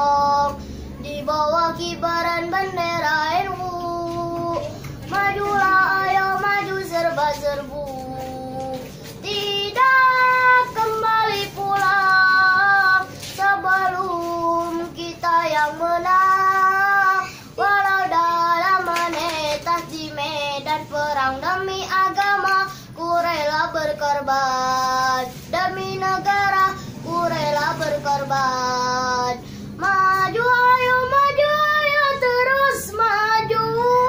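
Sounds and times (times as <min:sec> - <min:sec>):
boy singing unaccompanied: 0:00.0 - 0:34.0.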